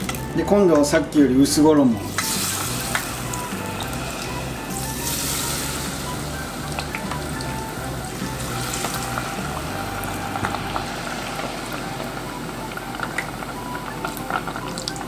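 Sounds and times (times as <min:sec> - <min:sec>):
tempura deep-frying in oil: 0:00.0 - 0:15.0.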